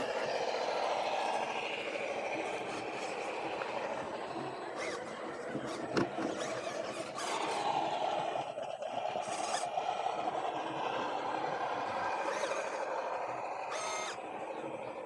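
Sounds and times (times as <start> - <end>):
electric motor and gearbox whining: 0.0 - 14.2.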